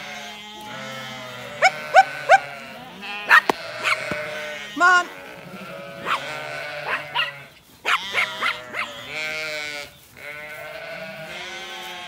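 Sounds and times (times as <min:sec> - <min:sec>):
sheep and lambs bleating: 0:00.0 - 0:12.0.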